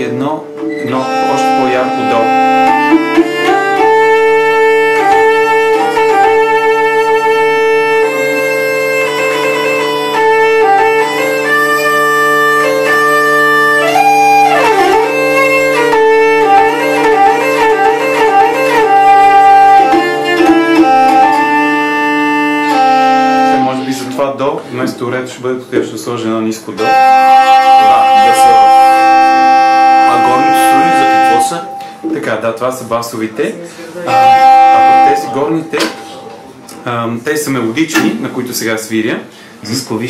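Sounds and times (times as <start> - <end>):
hurdy-gurdy drone: 0.0 - 24.9, 26.7 - 37.0
hurdy-gurdy melody: 0.0 - 25.3, 26.2 - 39.0.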